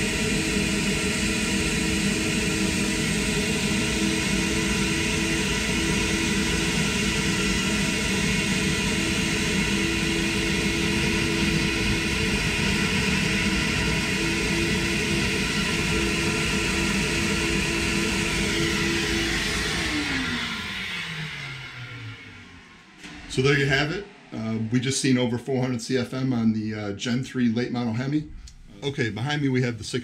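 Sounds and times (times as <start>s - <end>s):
steady machine hum: 0.0s - 26.7s.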